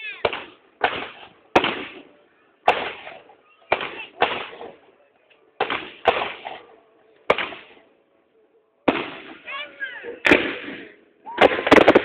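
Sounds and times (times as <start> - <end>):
fireworks bangs with echo: 0.0 - 4.9, 5.6 - 7.9, 8.8 - 9.6, 10.2 - 12.0.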